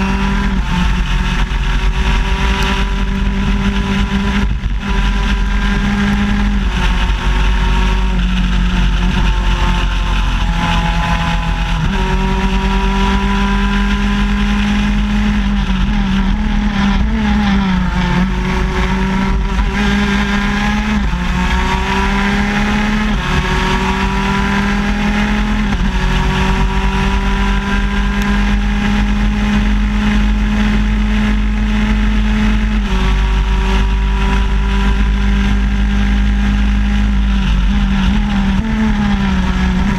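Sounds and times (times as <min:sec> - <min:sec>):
two-stroke kart engine racing: 0:00.0 - 0:39.9.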